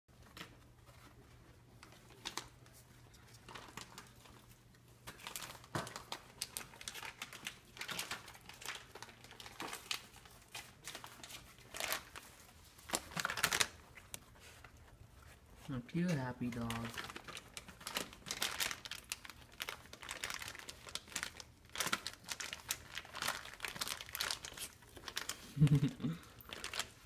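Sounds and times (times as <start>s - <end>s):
crinkly bag crackling and rustling: 0.1s - 27.0s.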